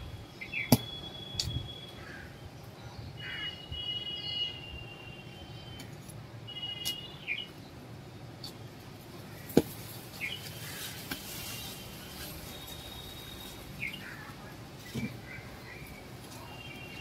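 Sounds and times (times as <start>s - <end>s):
birds chirping: 0.0s - 17.0s
low outdoor hum: 0.0s - 17.0s.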